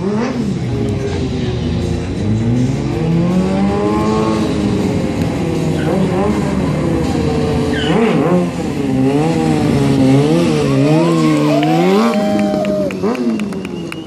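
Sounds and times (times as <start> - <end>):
sportbike engine revving: 0.0 - 13.9.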